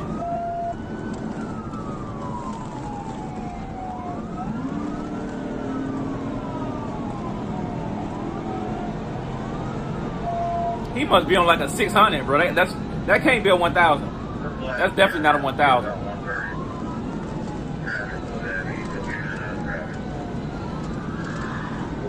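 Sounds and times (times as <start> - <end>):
engine and road noise: 0.0 - 22.0
police siren wailing: 0.0 - 22.0.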